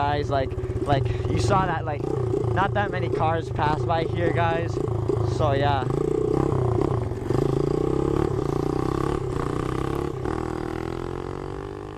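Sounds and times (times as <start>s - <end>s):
pit bike engine buzzing: 0.0s - 11.9s.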